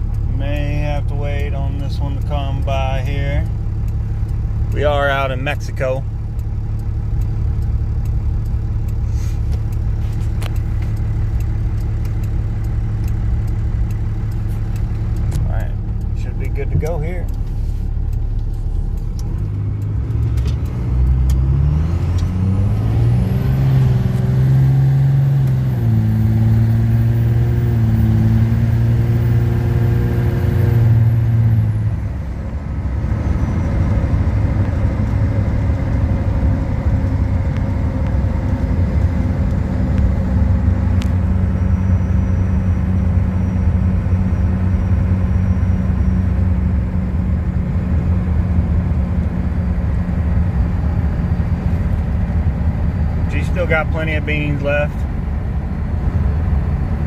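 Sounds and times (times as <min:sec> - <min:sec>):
diesel engine pulling hard: 0:00.0 - 0:57.0.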